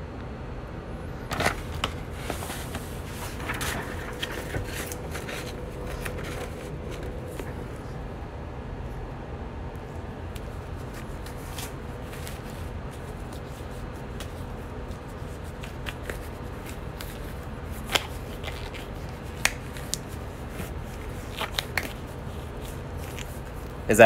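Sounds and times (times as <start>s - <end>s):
low room hum: 0.0s - 24.0s
paper sheet rustling: 1.2s - 8.1s, 9.9s - 23.9s.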